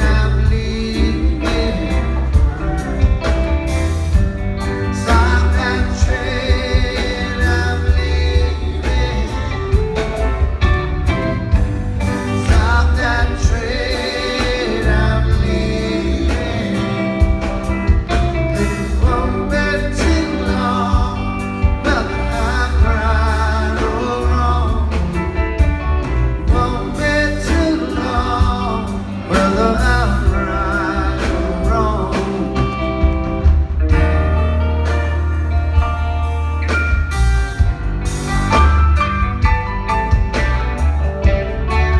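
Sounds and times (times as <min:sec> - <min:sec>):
lead vocals: 0:00.0 - 0:34.3
live rock band playing: 0:00.0 - 0:41.9.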